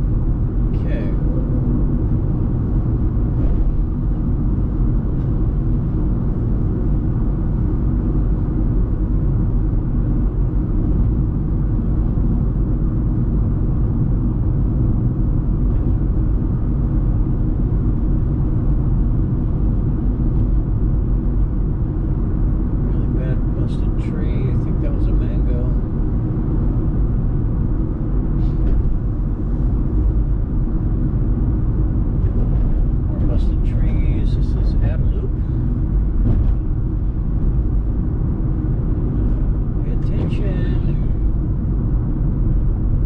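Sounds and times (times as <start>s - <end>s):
car cabin road and engine rumble: 0.0s - 43.0s.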